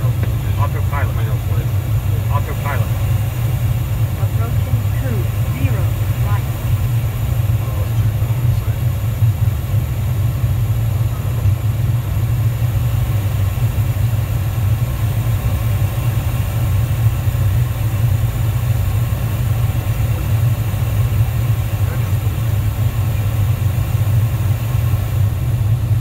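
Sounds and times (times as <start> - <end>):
jet cockpit low rumble: 0.0 - 26.0.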